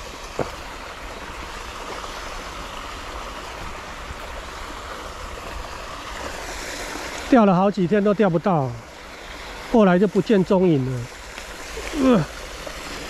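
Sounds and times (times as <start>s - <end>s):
water flowing: 0.0s - 13.0s.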